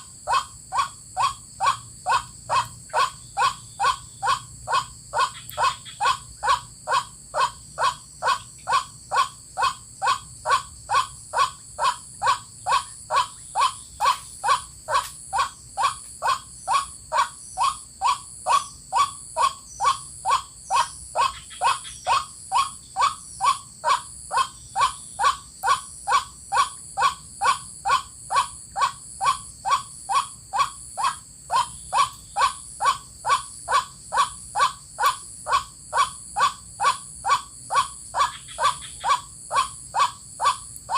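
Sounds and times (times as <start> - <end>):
bird croaking call: 0.0 - 40.9.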